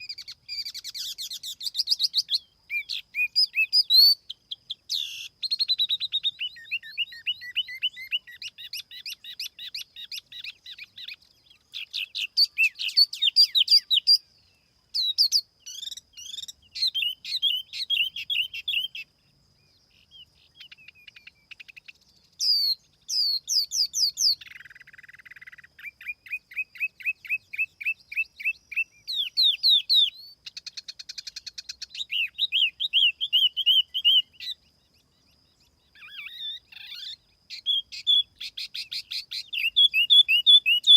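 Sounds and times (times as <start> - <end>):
songbird singing trills: 0.0 - 40.9.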